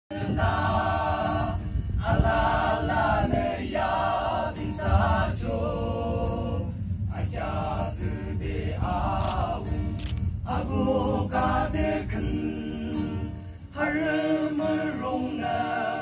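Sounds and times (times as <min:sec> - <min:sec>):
men singing in chorus: 0:00.1 - 0:16.0.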